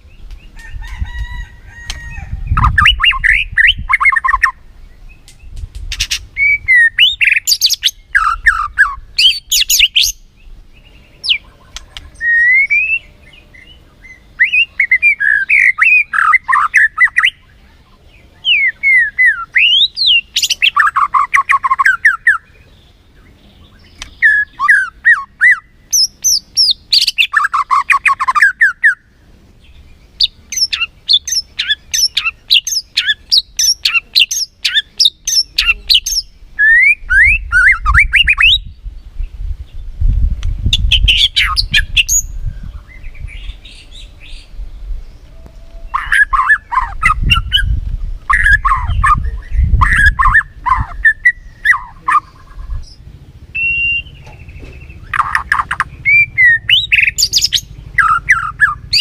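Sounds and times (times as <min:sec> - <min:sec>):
bird singing high chirps: 0:00.0 - 0:40.0, 0:40.6 - 0:59.0.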